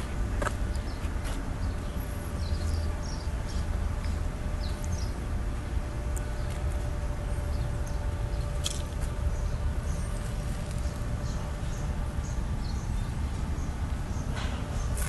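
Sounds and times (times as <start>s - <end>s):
thin steady hum: 0.0s - 15.0s.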